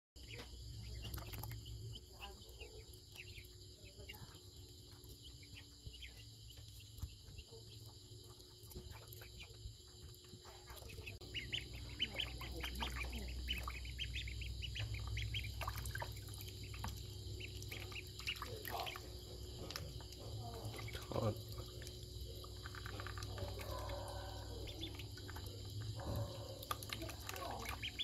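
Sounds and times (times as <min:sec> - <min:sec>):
ducklings peeping: 0:00.2 - 0:28.0.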